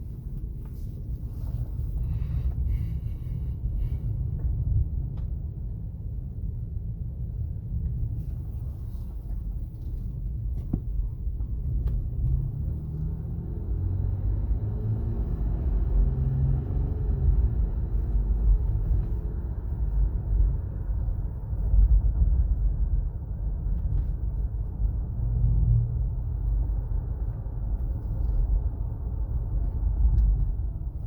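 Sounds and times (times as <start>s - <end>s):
road and tyre rumble: 0.0s - 31.0s.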